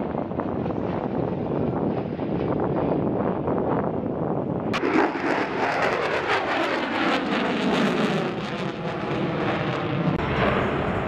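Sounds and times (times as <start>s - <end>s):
fighter jet flying overhead: 0.0s - 11.0s.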